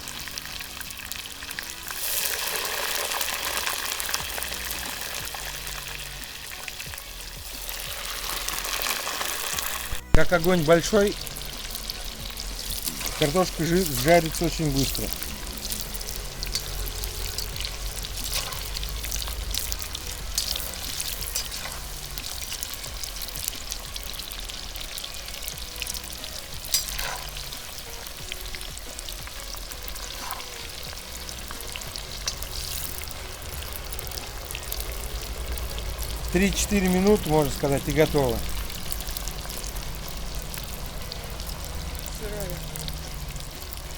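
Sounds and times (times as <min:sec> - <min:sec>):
fries sizzling in hot oil: 0:00.0 - 0:43.9.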